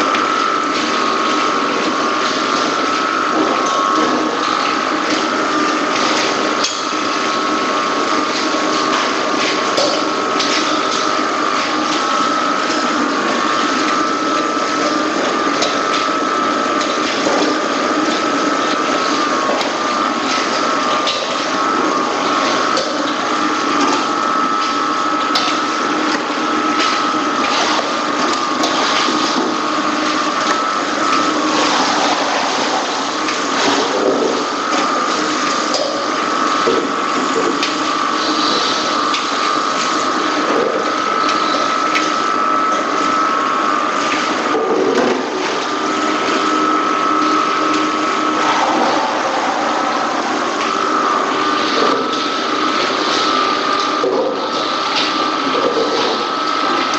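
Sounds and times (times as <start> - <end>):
constant machinery whine: 0.0 - 56.9.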